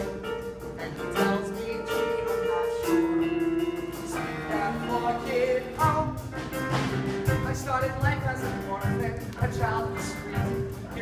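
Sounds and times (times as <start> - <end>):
drum beat: 0.0 - 11.0
piano: 0.0 - 11.0.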